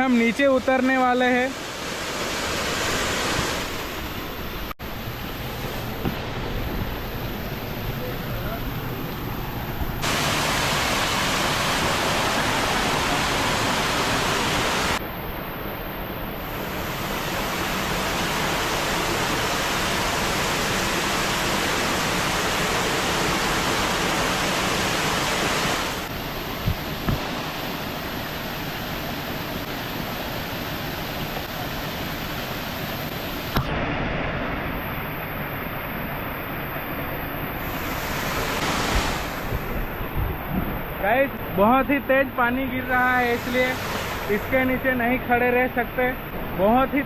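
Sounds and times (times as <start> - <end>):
waterfall rushing: 0.0 - 15.0, 16.5 - 35.3, 37.2 - 47.0.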